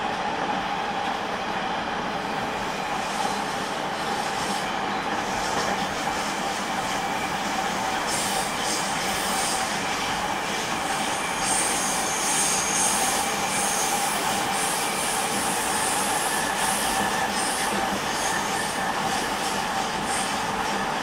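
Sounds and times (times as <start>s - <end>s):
steady train whine: 0.0s - 21.0s
train wheels rumbling on rails: 0.0s - 21.0s.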